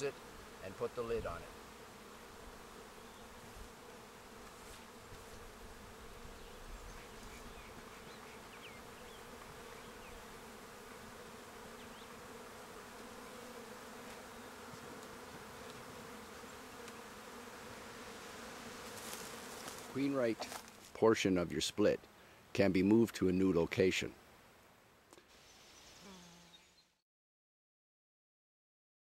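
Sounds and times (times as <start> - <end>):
honey bees buzzing: 0.0 - 23.6.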